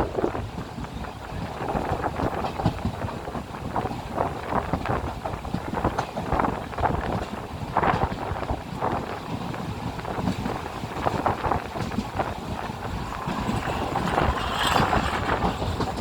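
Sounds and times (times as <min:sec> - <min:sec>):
train rumbling at speed: 0:00.0 - 0:16.0
wheels rattling on track: 0:00.0 - 0:16.0.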